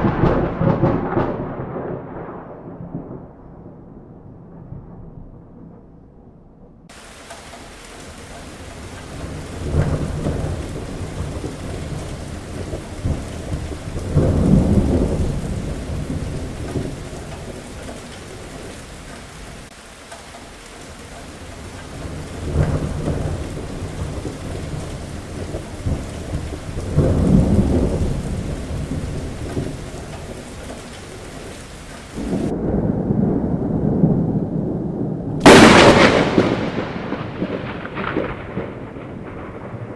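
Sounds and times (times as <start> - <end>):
heavy rain: 0.0 - 3.2, 6.9 - 39.9
rolling thunder: 0.0 - 19.8, 20.5 - 39.9.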